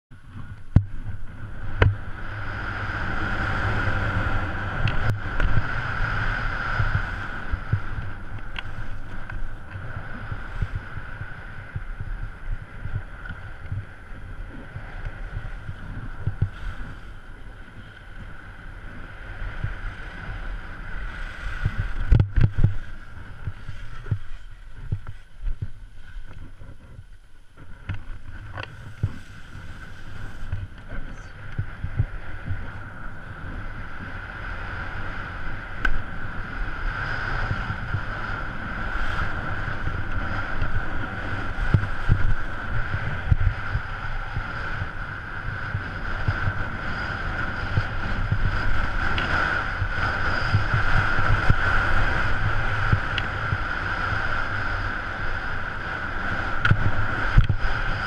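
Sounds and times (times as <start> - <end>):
air rushing on microphone: 0.3 - 58.0
skis scraping over snow: 0.4 - 27.0, 27.6 - 58.0.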